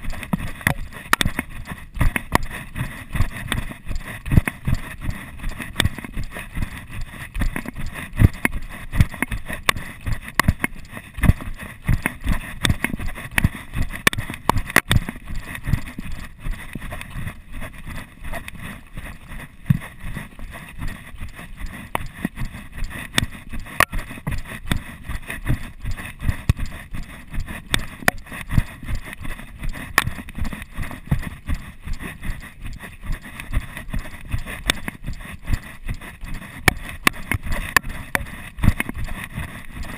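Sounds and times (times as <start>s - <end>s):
footsteps running on dirt trail: 0.0s - 39.9s.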